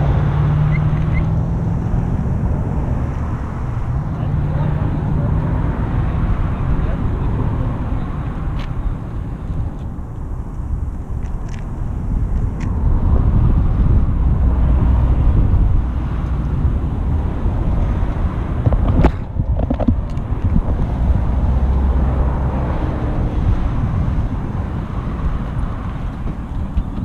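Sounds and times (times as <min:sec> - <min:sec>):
passing road traffic: 0:00.0 - 0:27.0.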